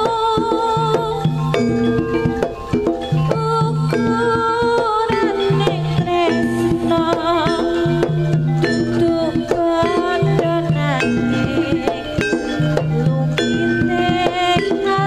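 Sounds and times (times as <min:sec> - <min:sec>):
drum strokes: 0:00.0 - 0:15.0
gamelan ensemble music: 0:00.0 - 0:15.0
wavering high lead melody: 0:00.0 - 0:15.0.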